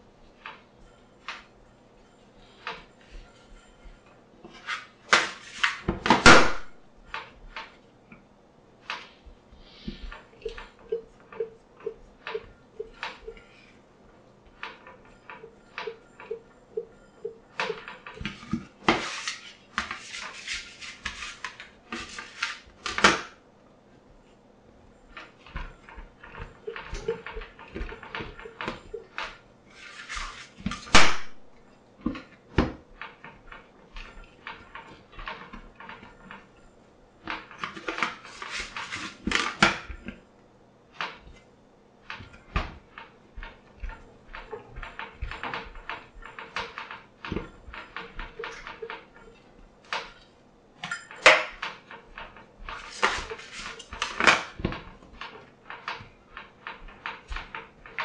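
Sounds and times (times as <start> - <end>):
dough kneaded on steel counter: 0.0 - 31.0, 31.6 - 58.0.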